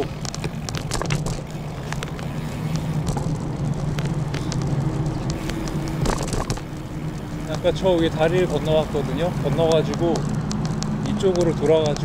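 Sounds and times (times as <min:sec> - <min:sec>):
clicks and crackles: 0:00.0 - 0:12.0
vehicle engine hum: 0:00.0 - 0:12.0.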